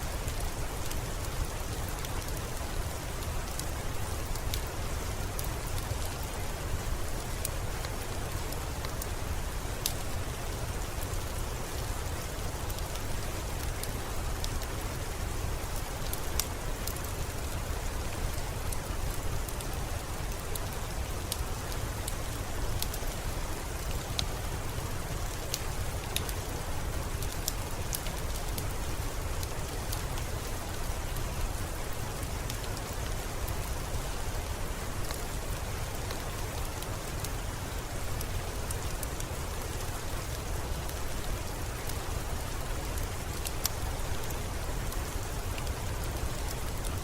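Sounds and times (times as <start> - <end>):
steady rain: 0.0 - 47.0
wood fire crackling: 0.1 - 47.0.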